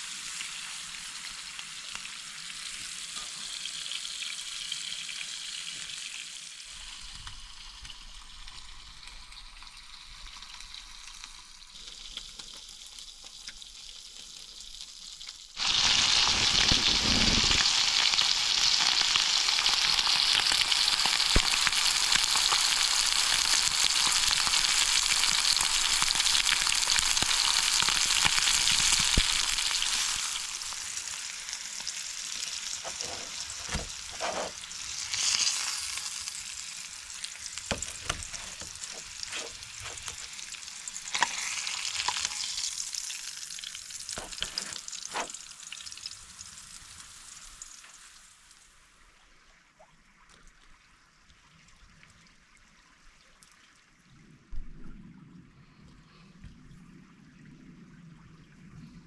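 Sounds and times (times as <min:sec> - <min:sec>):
food sizzling in a pan: 0:00.0 - 0:48.7.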